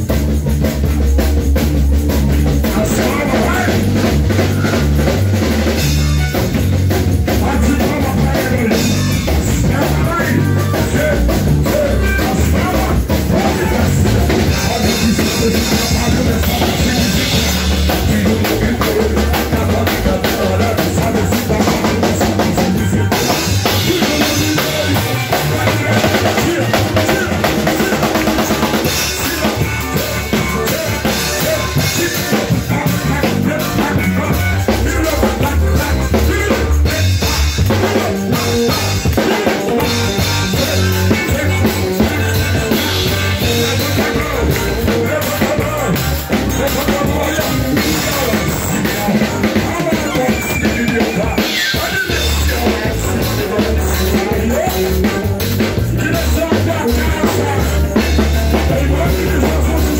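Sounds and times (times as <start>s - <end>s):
live band playing worship song: 0.0s - 59.9s
pounding bass drum: 0.0s - 59.9s.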